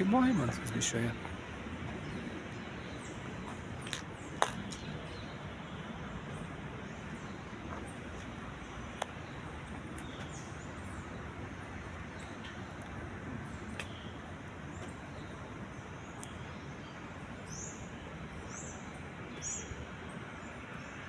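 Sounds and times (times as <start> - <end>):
city traffic hum: 0.0 - 21.0.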